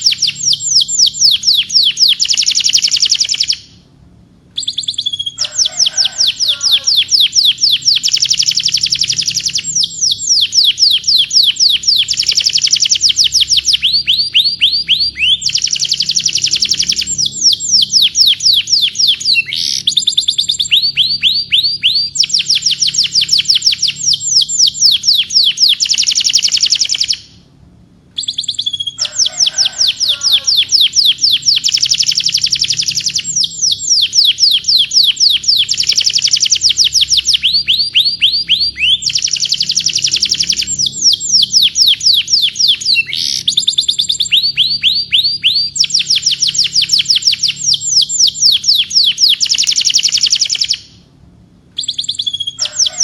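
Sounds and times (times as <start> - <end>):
canary singing trills: 0.0 - 3.9, 4.5 - 27.5, 28.2 - 51.0, 51.8 - 53.0.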